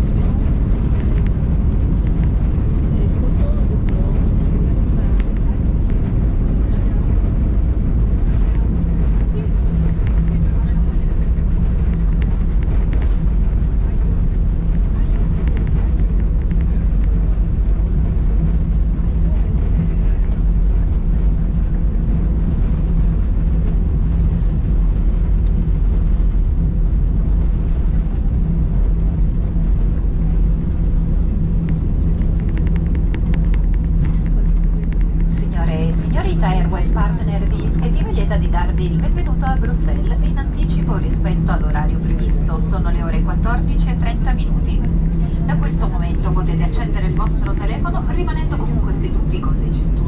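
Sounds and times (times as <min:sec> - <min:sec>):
airplane cabin rumble: 0:00.0 - 0:50.0
low hum: 0:00.0 - 0:50.0.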